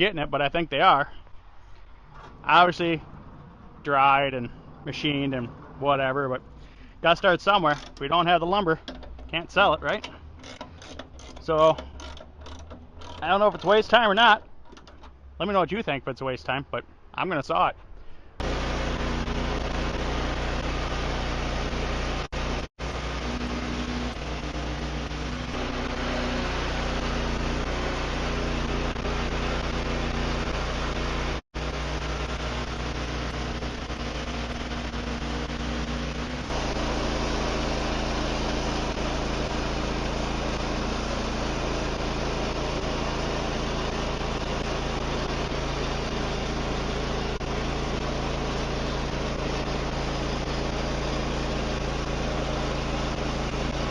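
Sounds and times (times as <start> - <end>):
band sawmill running: 2.2 - 15.5, 18.4 - 53.9.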